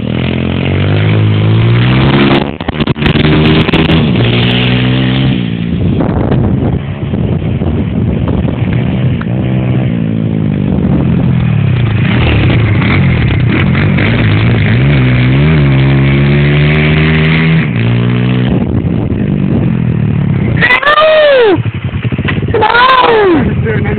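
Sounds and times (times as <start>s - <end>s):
pit bike engine revving: 0.0s - 23.9s.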